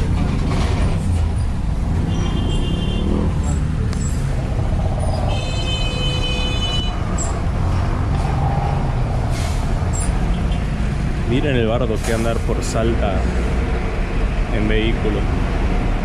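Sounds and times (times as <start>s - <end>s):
bus engine rumbling: 0.0s - 16.0s.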